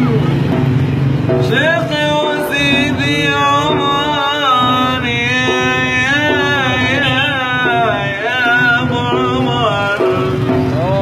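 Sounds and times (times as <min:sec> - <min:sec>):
man singing into plastic bowl: 0:01.3 - 0:11.0.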